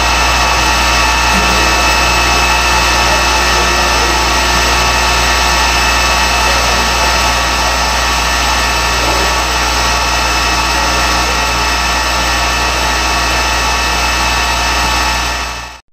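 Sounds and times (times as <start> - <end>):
machine motors humming and whining: 0.0 - 15.8.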